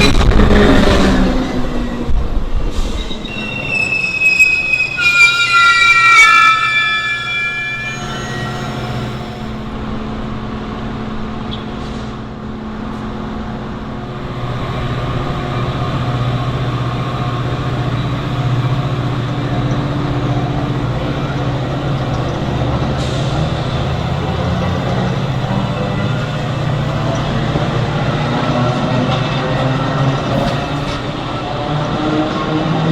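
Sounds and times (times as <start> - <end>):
heavy engine droning: 0.0 - 32.8.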